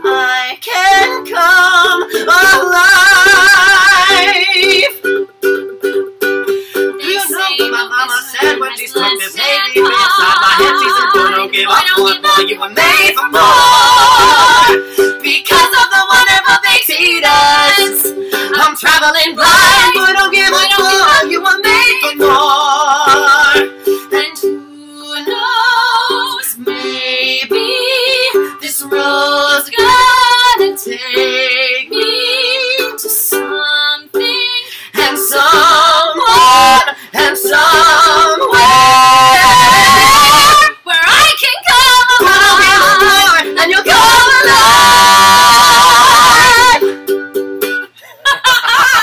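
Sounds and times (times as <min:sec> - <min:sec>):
woman and man singing duet: 0:00.0 - 0:05.0, 0:06.7 - 0:47.0, 0:48.2 - 0:49.0
strummed ukulele: 0:00.0 - 0:49.0.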